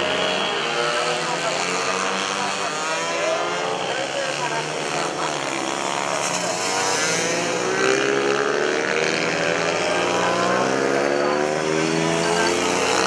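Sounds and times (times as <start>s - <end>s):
small motorcycle engines revving: 0.0s - 13.0s.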